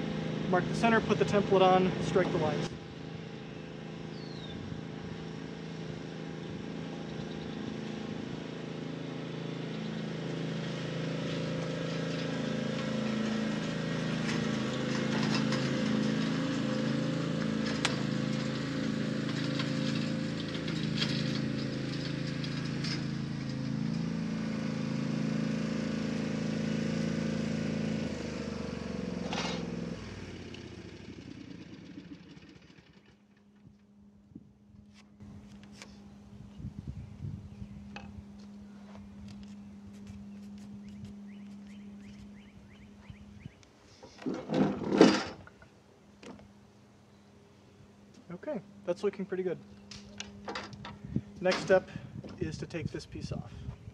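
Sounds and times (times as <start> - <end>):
riding lawn mower engine: 0.0 - 53.9.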